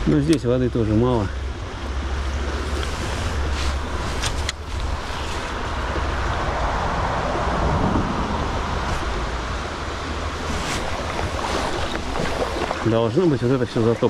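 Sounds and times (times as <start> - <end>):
stream water rushing: 0.0 - 14.0
wind rumbling on microphone: 0.9 - 14.0.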